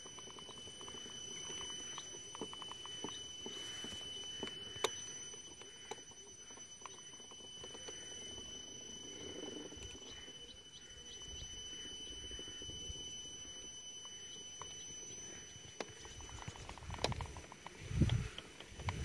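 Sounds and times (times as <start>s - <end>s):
model locomotive motor whine: 0.0s - 19.0s.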